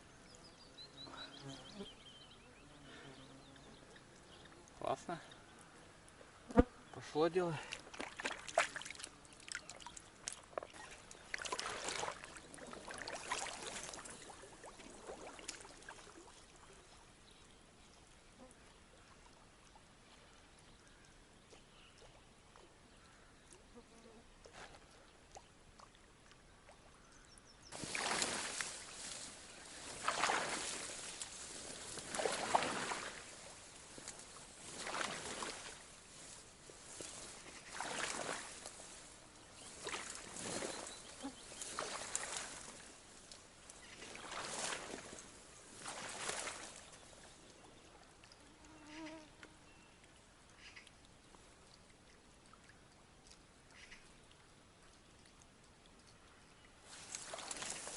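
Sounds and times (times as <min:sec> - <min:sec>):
water splashing and trickling: 0:07.1 - 0:23.8, 0:24.4 - 0:48.5, 0:49.8 - 0:57.9.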